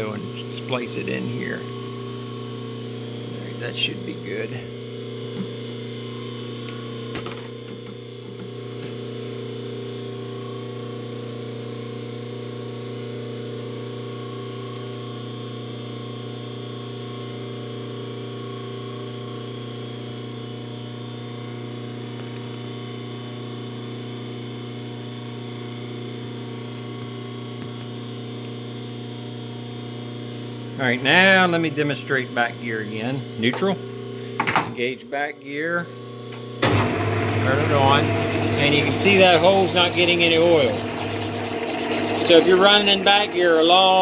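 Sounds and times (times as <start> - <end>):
machinery humming with whine: 0.0 - 44.0.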